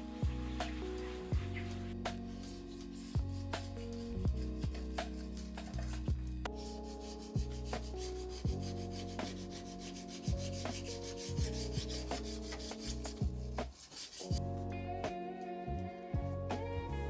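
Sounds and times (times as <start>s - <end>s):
music with steady beat: 0.0s - 15.5s
scraper blade scraping cooktop: 0.5s - 14.4s.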